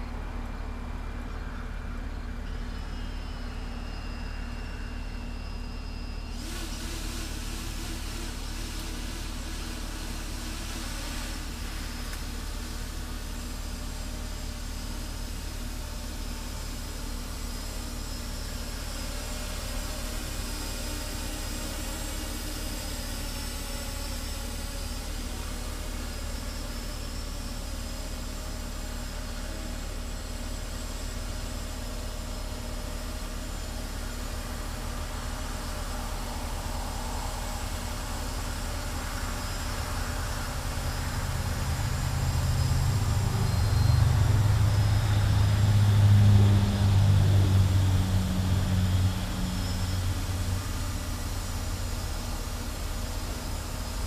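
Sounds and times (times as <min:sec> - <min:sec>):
drone motors humming: 0:00.0 - 0:54.0.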